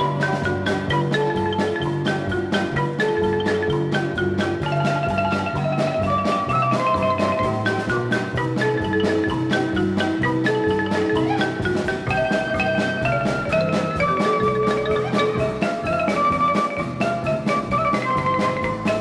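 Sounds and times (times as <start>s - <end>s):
marimba melody over a beat: 0.0s - 19.0s.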